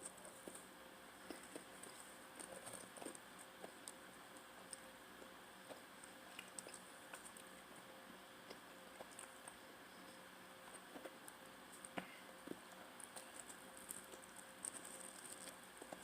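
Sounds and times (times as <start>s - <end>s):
faint chewing: 0.0s - 16.0s
low room hum: 0.0s - 16.0s.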